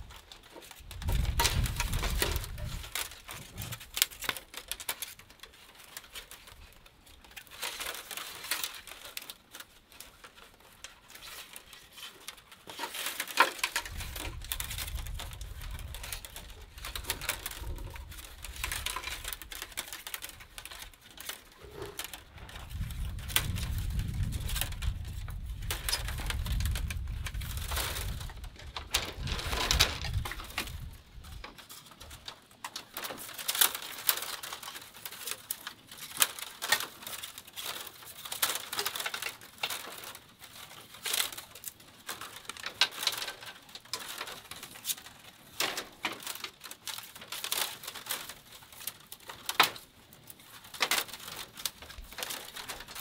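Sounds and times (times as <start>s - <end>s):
bamboo strips rustling and clicking: 0.0s - 53.0s.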